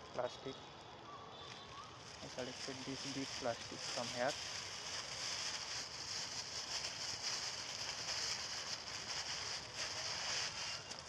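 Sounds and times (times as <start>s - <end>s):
high-pitched outdoor hiss: 0.0s - 11.0s
faint rustles and clicks: 1.4s - 11.0s.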